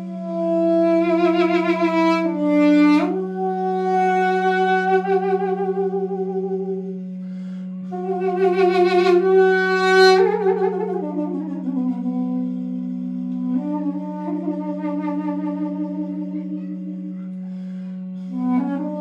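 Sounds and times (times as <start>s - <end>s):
duduk melody: 0.0s - 19.0s
steady low drone: 0.0s - 19.0s.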